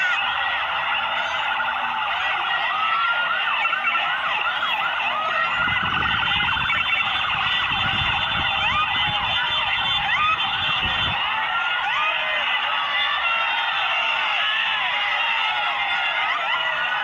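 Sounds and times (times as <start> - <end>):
sirens yelping: 0.0 - 17.0.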